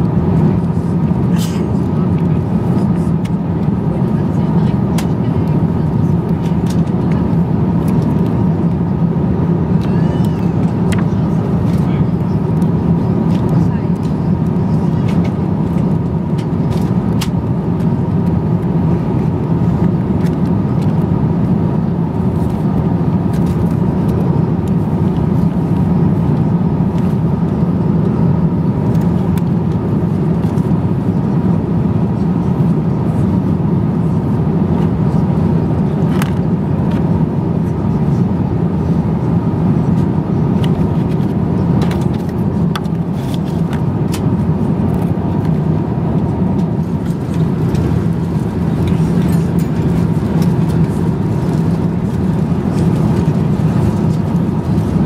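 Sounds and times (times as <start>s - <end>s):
aircraft cabin roar: 0.0s - 55.0s.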